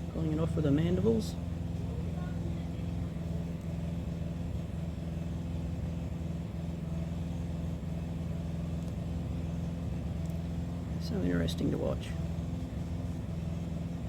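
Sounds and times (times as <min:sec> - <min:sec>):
low mechanical motor hum: 0:00.0 - 0:14.0.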